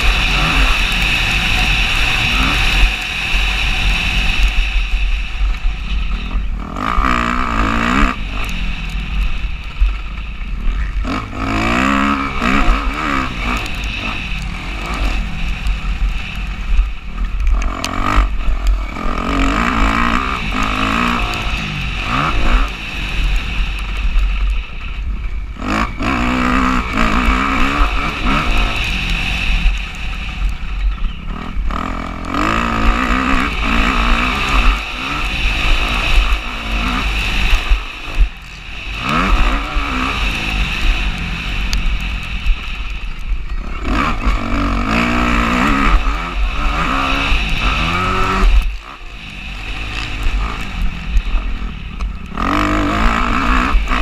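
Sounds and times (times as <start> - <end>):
dirt bike engine revving: 0.0 - 54.0
low rumble: 0.0 - 54.0.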